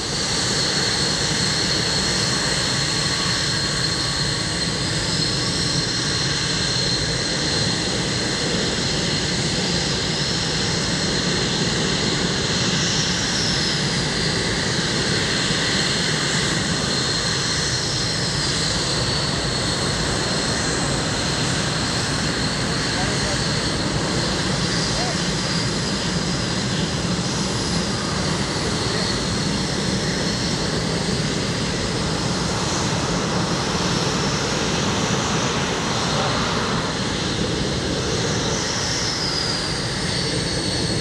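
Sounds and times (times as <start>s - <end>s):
jet engines whining and roaring: 0.0s - 41.0s.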